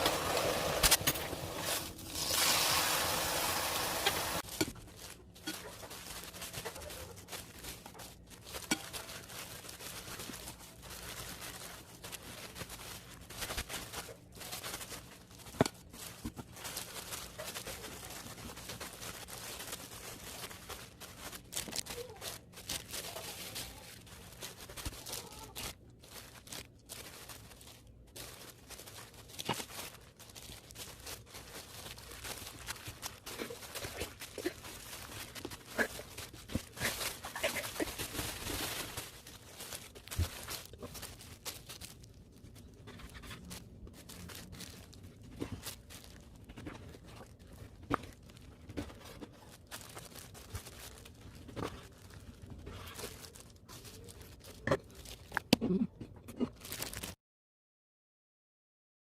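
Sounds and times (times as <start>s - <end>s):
rustling and crinkling: 0.0s - 57.2s.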